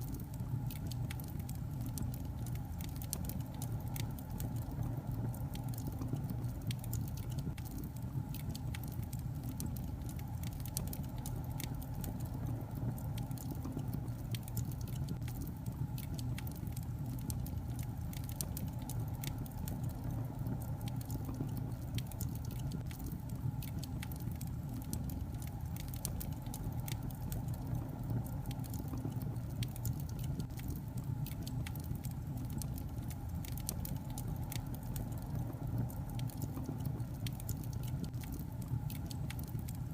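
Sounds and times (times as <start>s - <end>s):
flames rumbling: 0.0s - 39.9s
logs crackling and popping: 0.0s - 39.9s.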